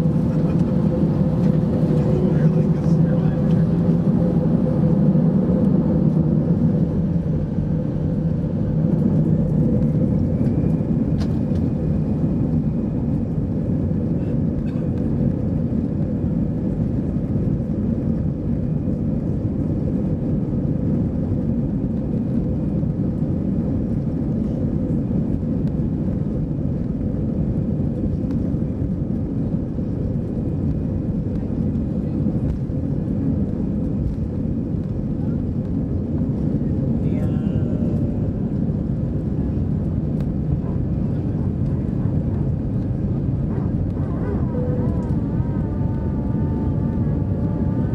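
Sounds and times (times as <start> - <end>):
jet engine fan whine: 0.0 - 47.9
jet engines and runway rumble: 0.0 - 47.9.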